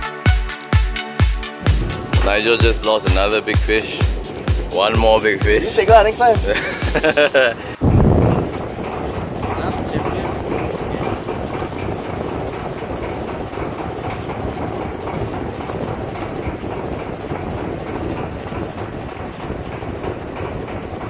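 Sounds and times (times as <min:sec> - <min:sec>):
boat engine rumble: 0:00.0 - 0:21.0
water: 0:01.4 - 0:21.0
wind: 0:01.4 - 0:21.0.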